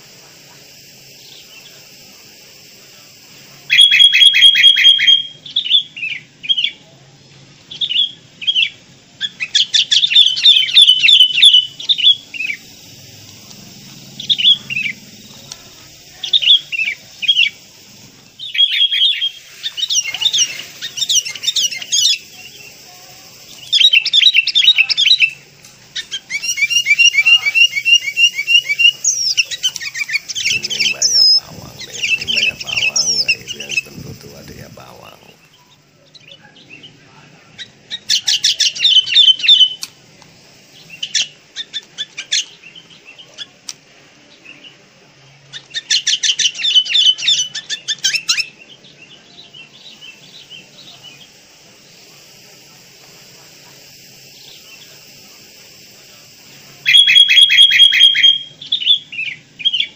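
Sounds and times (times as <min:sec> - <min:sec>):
bird chattering song: 0:00.6 - 0:06.8, 0:07.7 - 0:39.9, 0:40.6 - 0:43.6, 0:45.4 - 0:52.4, 0:53.5 - 0:59.9.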